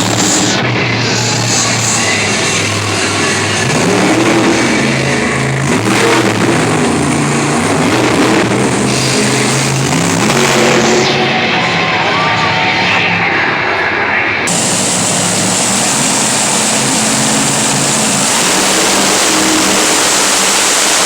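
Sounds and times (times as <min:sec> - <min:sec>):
truck engine revving: 0:00.0 - 0:11.8, 0:14.5 - 0:21.0.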